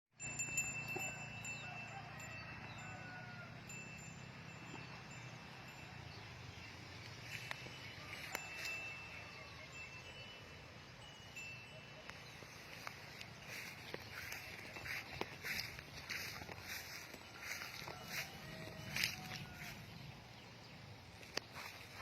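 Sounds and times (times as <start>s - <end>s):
high-pitched bell ringing: 0.2s - 20.0s.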